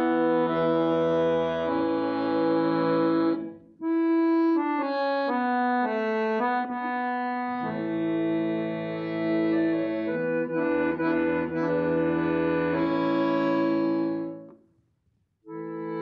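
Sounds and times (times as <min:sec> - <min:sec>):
accordion playing chords and melody: 0:00.0 - 0:14.5, 0:15.5 - 0:16.0.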